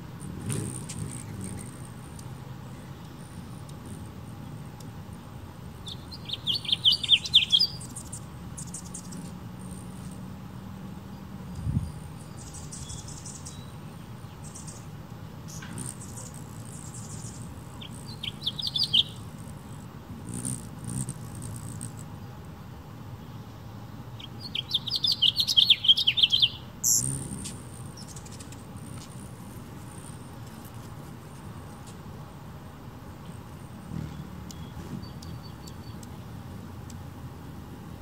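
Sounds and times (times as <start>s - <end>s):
hummingbird chattering: 0.0s - 22.3s, 24.2s - 37.0s
faint background hum: 0.0s - 38.0s.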